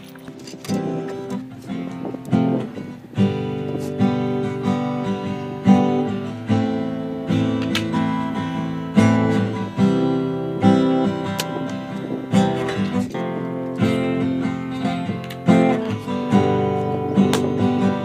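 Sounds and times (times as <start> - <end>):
strummed guitar chords: 0.0 - 18.0.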